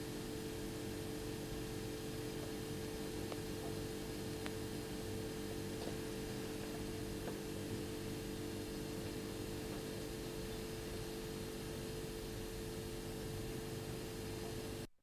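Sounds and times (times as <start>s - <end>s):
electrical hum: 0.0s - 14.9s.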